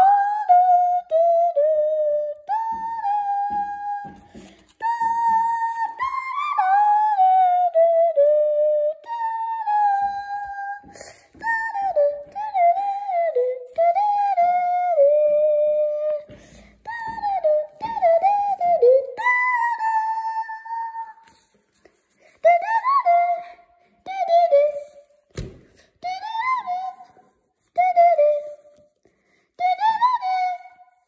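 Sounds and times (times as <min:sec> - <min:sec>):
high voice singing wordlessly: 0:00.0 - 0:29.0, 0:29.6 - 0:31.0.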